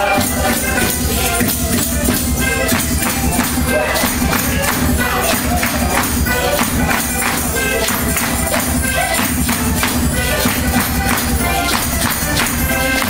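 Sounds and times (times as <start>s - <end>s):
drum beat: 0.0s - 13.0s
jingling hand percussion: 0.0s - 13.0s.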